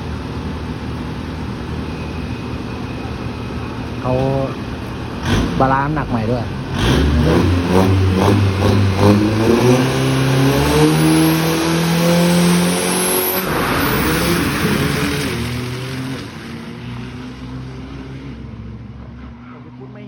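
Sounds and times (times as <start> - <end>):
truck engine accelerating: 0.0 - 20.0.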